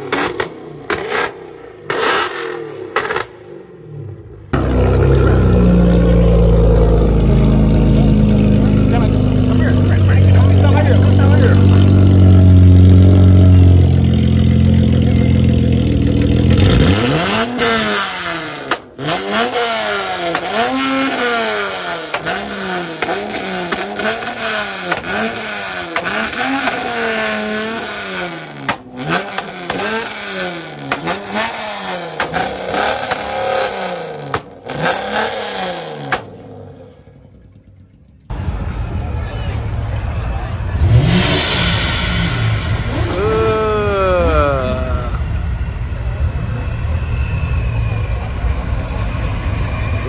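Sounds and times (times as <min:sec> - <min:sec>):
car engine revving: 0:00.0 - 0:50.0
car engine idling: 0:02.8 - 0:16.9, 0:19.8 - 0:50.0.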